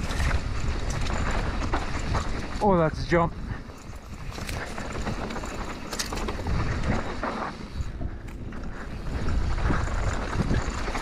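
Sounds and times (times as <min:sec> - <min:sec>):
bike chain and frame rattling: 0:00.0 - 0:11.0
tyres rumbling on dirt trail: 0:00.0 - 0:11.0.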